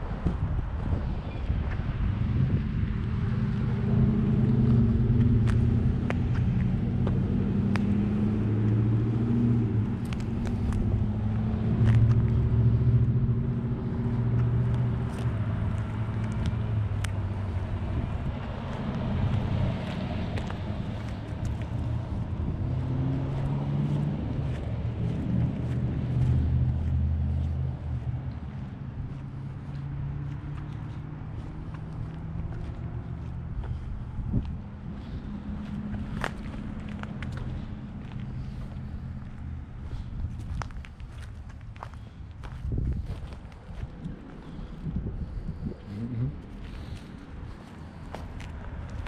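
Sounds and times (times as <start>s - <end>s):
engine low rumble: 0.0s - 49.0s.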